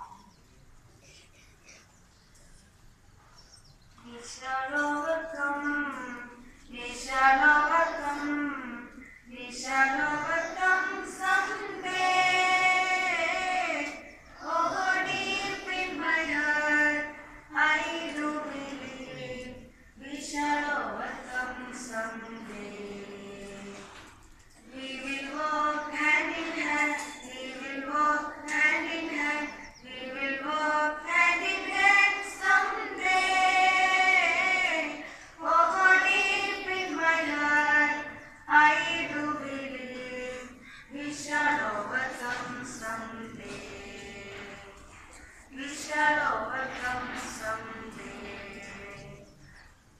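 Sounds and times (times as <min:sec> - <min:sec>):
children singing together: 0:04.1 - 0:49.6.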